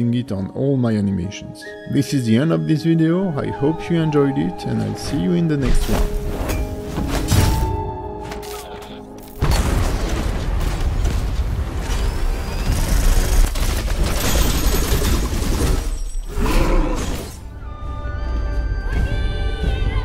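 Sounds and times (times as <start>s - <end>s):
action soundtrack music: 2.5s - 20.0s.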